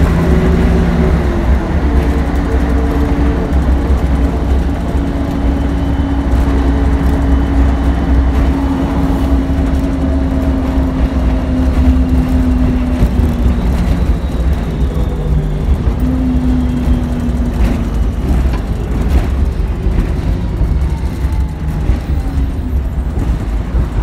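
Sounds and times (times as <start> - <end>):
bus engine and road rumble: 0.0 - 24.0
drawn-out shifting tones: 0.0 - 24.0.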